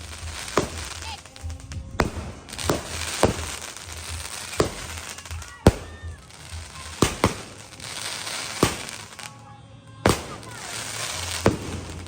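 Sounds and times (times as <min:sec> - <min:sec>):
firework bangs: 0:00.0 - 0:12.0
firework crackling and hiss: 0:00.0 - 0:12.0.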